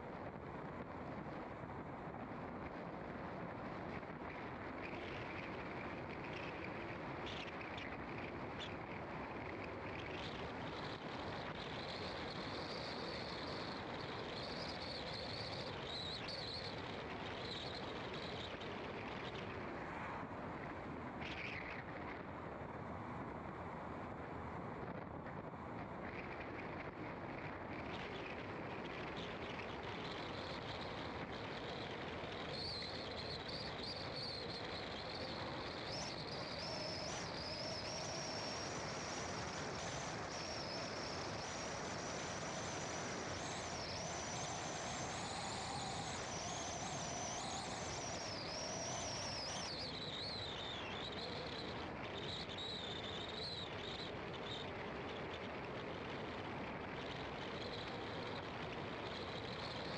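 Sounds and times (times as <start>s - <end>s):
car road and tyre noise: 0.0s - 59.9s
faint high wavering whine: 0.0s - 59.9s.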